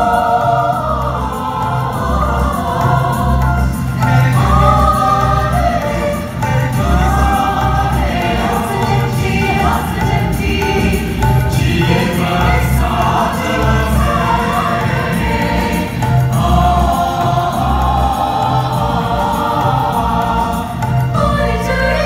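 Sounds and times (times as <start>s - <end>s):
mixed choir singing: 0.0s - 22.0s.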